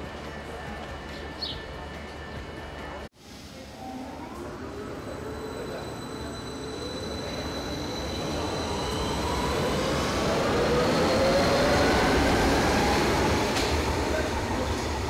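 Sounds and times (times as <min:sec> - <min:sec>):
underground train rumbling past: 0:00.0 - 0:15.0.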